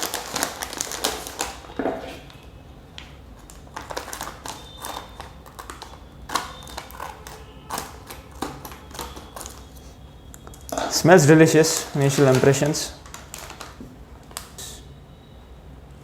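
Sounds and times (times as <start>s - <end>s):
plastic packet crinkling: 0.0s - 2.4s, 3.0s - 9.8s, 10.4s - 14.6s.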